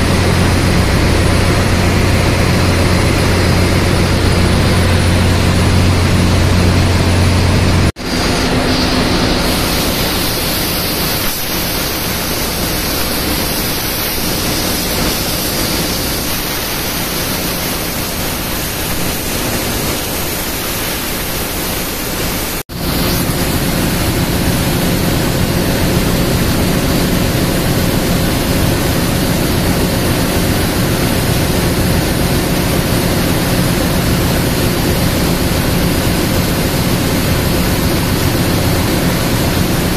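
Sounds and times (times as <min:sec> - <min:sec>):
deep machinery hum: 0:00.0 - 0:39.9
machinery rushing hiss: 0:00.0 - 0:39.9.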